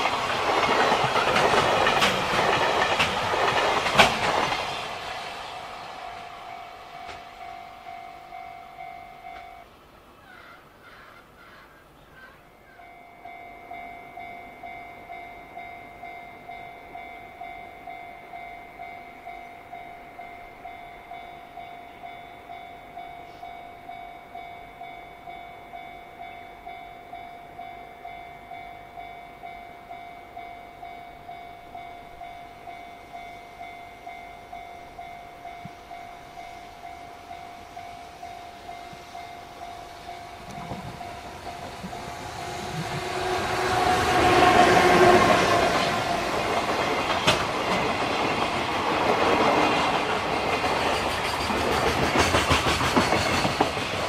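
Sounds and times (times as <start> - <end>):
level crossing warning bell: 0.0 - 10.0, 12.4 - 54.0
train rumble: 0.0 - 10.4, 12.8 - 54.0.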